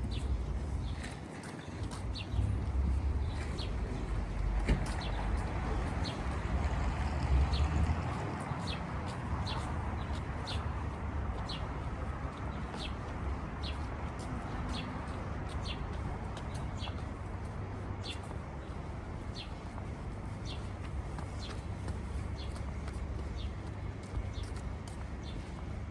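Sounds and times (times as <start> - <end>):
city traffic rumble: 0.0 - 25.9.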